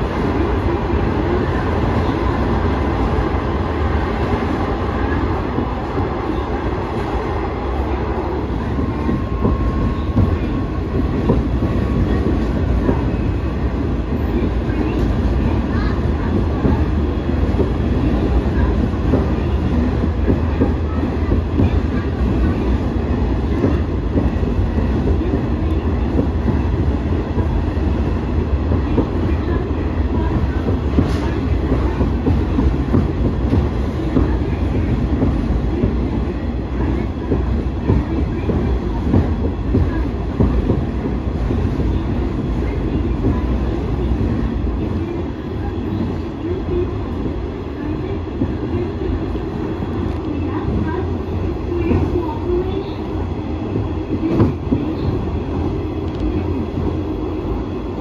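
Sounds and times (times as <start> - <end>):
diesel railcar rumbling: 0.0 - 58.0.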